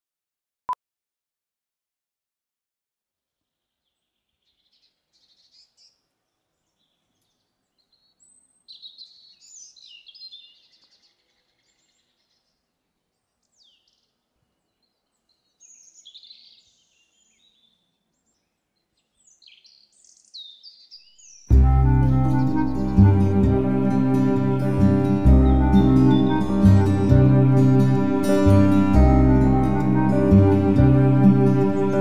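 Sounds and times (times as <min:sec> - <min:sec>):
faint birdsong: 0:03.6 - 0:32.0.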